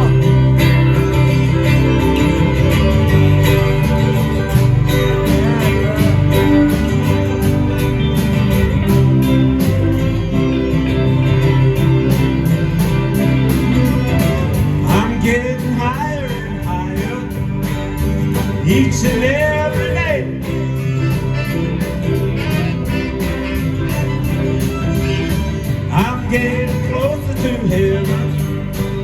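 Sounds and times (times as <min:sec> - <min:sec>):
guitar: 0:00.0 - 0:29.0
steady drum beat: 0:00.0 - 0:29.0
sustained bass notes: 0:00.0 - 0:29.0.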